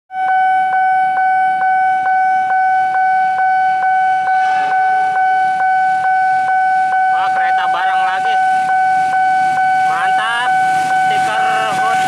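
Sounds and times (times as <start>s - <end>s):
level crossing warning alarm: 0.1s - 12.0s.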